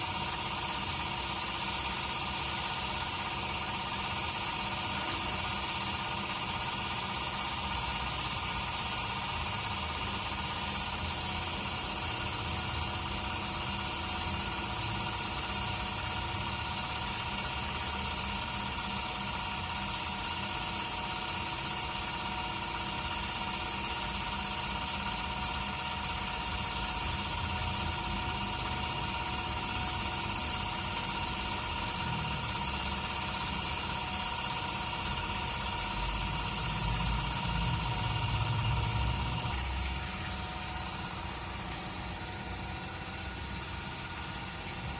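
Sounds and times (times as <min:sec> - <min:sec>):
spray gun hissing: 0:00.0 - 0:44.9
steady mechanical hum: 0:00.0 - 0:44.9.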